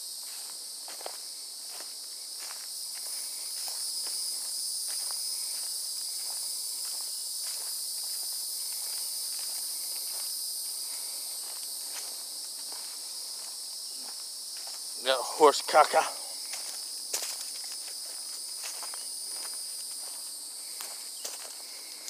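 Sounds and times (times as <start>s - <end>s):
footsteps on dry leaves: 0.0s - 22.0s
insects chirring: 0.0s - 22.0s.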